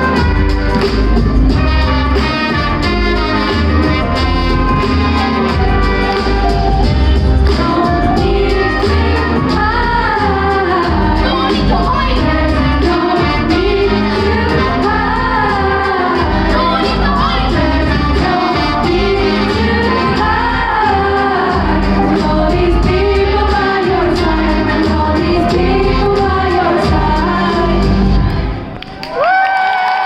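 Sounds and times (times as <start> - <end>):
drum beat: 0.0 - 28.3
pop song with singing: 0.0 - 28.6
bass: 0.0 - 29.3.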